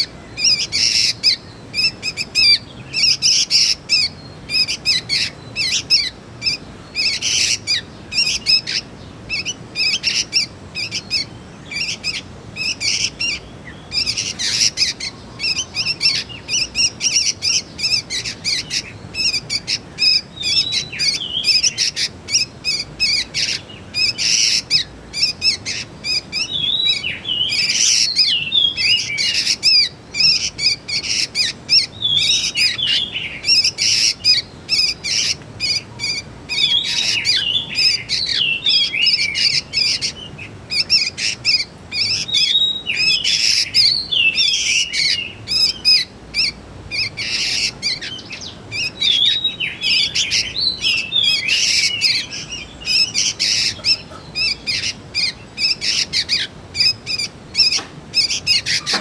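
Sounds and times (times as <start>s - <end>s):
birds chirping rapidly: 0.0s - 59.0s.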